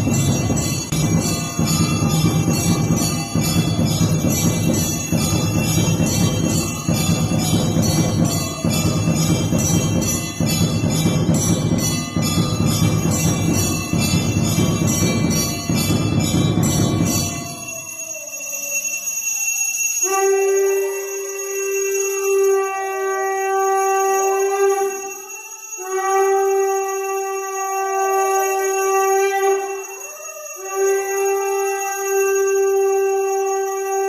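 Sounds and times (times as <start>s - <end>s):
temple bells ringing rapidly: 0.0s - 34.0s.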